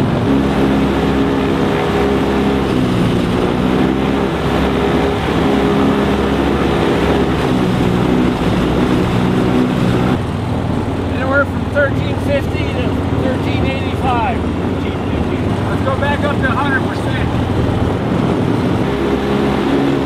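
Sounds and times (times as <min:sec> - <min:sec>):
aircraft engine and propeller: 0:00.0 - 0:20.0.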